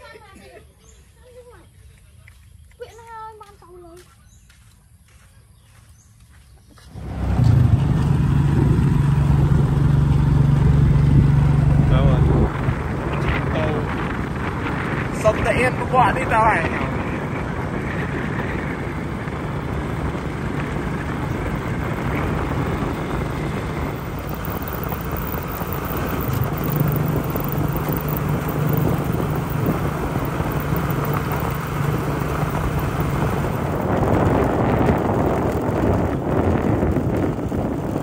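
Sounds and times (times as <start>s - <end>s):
wind noise on microphone: 6.8s - 38.0s
low motor drone: 6.9s - 38.0s.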